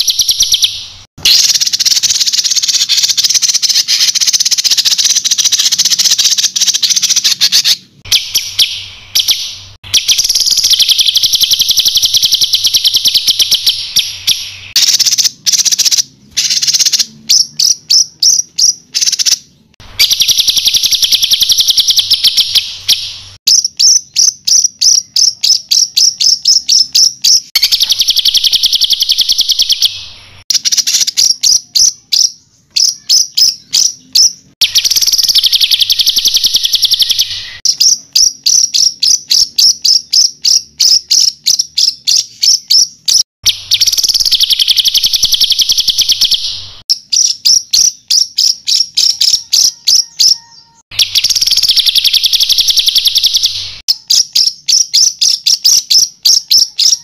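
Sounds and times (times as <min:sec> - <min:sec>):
songbird trilling and singing: 0:00.0 - 0:57.0.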